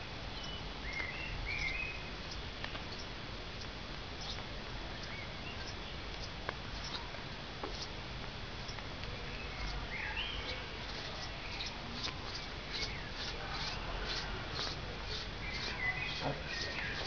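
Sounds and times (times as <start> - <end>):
low steady rumble: 0.0 - 17.0
small birds chirping: 0.2 - 17.0.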